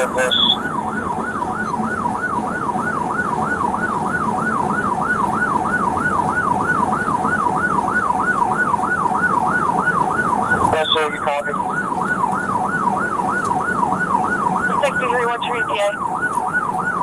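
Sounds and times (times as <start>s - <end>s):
police siren yelping: 0.0s - 17.0s
road noise: 0.0s - 17.0s.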